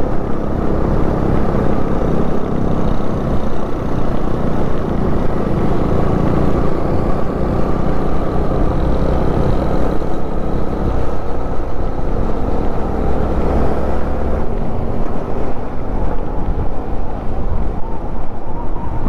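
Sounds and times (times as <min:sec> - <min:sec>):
road rumble: 0:00.0 - 0:19.0
vehicle engine: 0:00.0 - 0:19.0.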